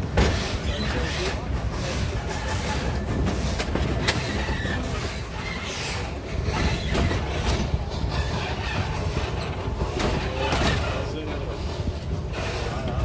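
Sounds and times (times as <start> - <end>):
steam train rumbling on track: 0.0 - 13.0.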